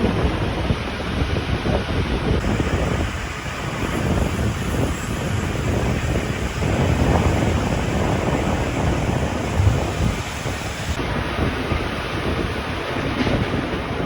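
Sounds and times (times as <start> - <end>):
train rumbling: 0.0 - 14.0
wind buffeting microphone: 0.0 - 14.0.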